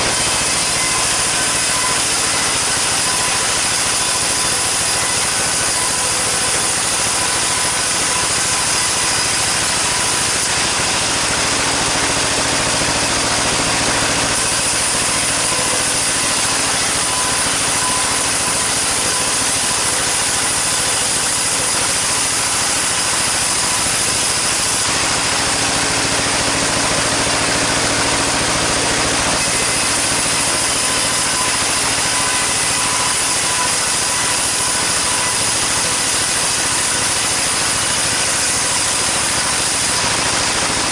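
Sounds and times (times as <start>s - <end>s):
motor hum: 0.0s - 40.9s
saw whine and rasp: 0.0s - 40.9s.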